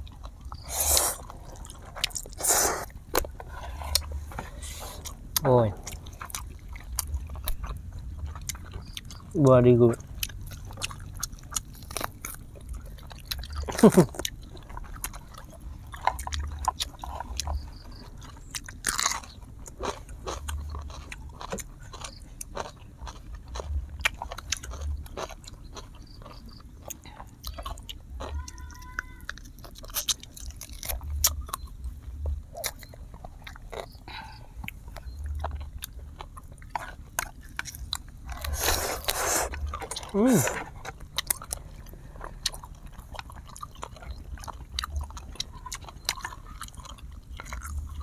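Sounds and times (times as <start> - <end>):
crunchy chewing: 0.0 - 48.0.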